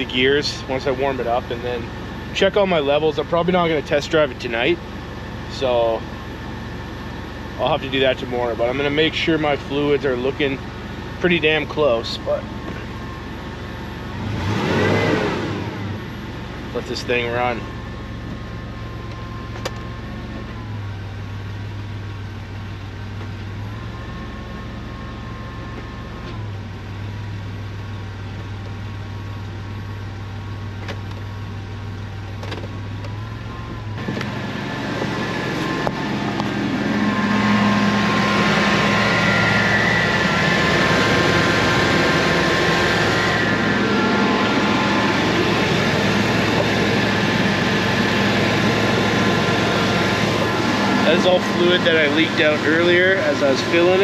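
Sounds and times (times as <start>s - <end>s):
van engine idling: 0.0s - 54.0s.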